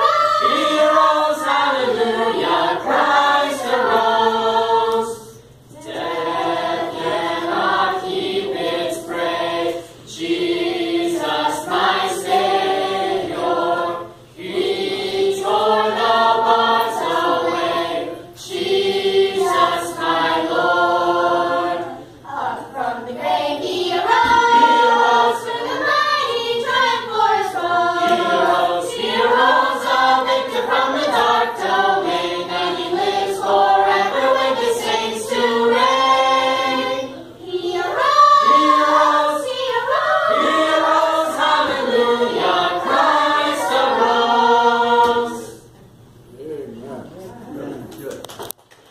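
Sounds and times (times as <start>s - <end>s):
youth choir singing: 0.0s - 45.7s.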